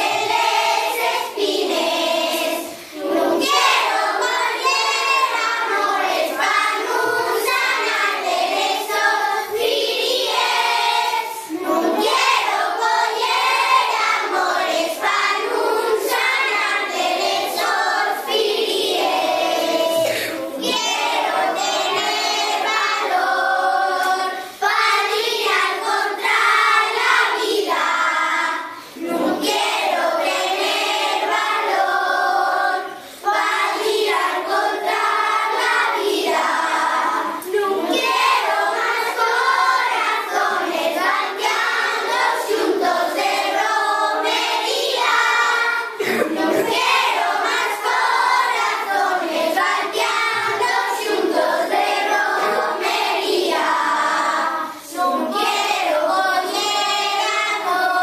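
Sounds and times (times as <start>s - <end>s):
children singing together: 0.0s - 58.0s.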